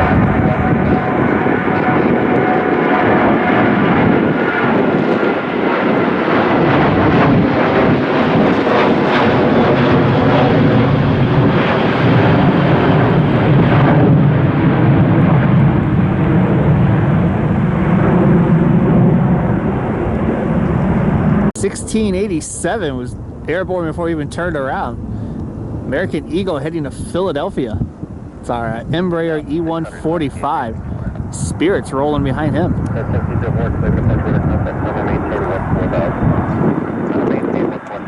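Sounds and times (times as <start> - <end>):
jet airliner taking off: 0.0 - 38.0.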